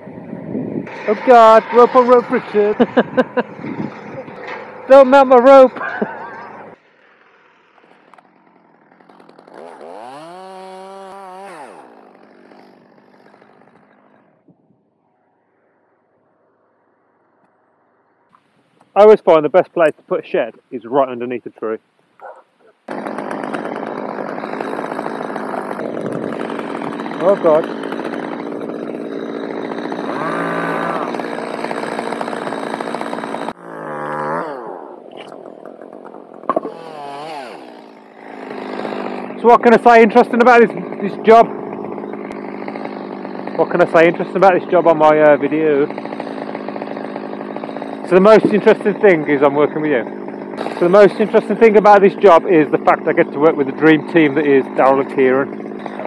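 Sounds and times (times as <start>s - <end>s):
chainsaw revving: 0.8s - 14.5s, 22.2s - 56.0s.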